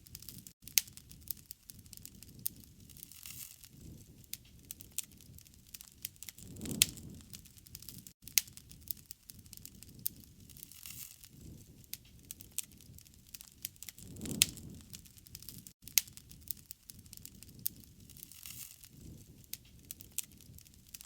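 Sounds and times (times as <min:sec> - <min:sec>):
wood campfire crackling: 0:00.0 - 0:21.0
rushing flame: 0:00.1 - 0:21.0.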